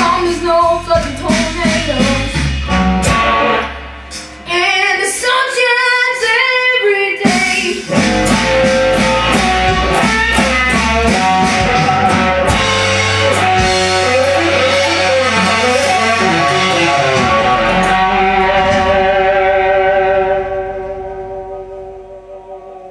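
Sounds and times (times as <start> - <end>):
bass and drums: 0.0 - 6.3, 7.2 - 22.9
electric blues guitar: 0.0 - 22.9.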